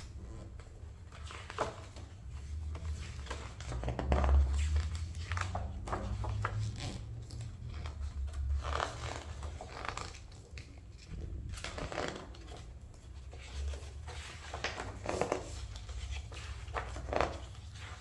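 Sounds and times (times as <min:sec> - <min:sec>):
book pages turning: 0:00.0 - 0:18.0.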